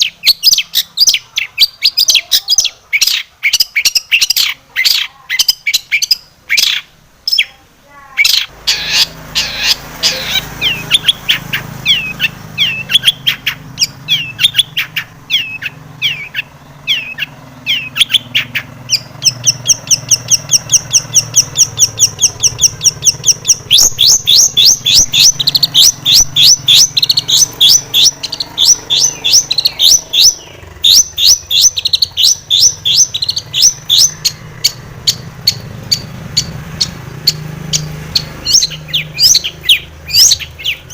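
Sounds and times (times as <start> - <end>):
shrike singing: 0.0 - 40.9.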